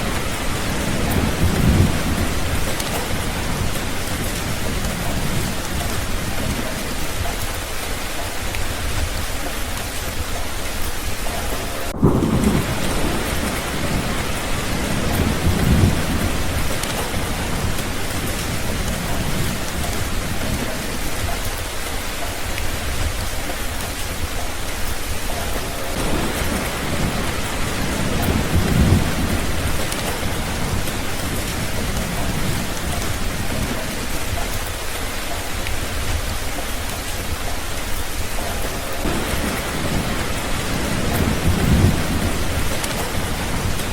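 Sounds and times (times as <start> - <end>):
thunder rumbling: 0.0 - 10.4, 11.1 - 21.9, 22.7 - 43.9
steady rain falling: 0.0 - 43.9.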